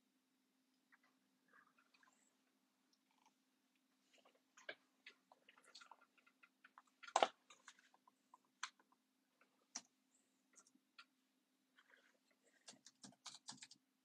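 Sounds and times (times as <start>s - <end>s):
faint steady hum: 0.0s - 14.0s
small clicks and scratches: 0.9s - 13.9s.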